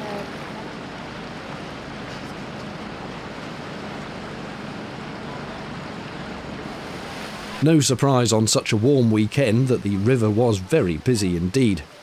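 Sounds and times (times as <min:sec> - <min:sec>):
boat engine hum: 0:00.0 - 0:12.0
water wash: 0:00.0 - 0:12.0.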